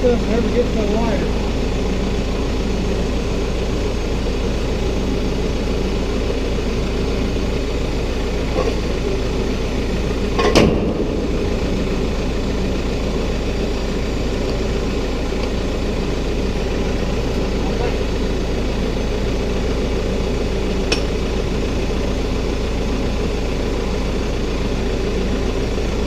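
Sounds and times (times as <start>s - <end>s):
tractor diesel engine idling: 0.0s - 26.0s.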